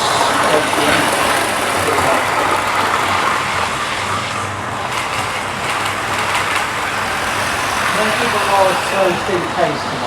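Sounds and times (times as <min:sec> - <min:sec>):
model trains whirring on rails: 0:00.0 - 0:10.0.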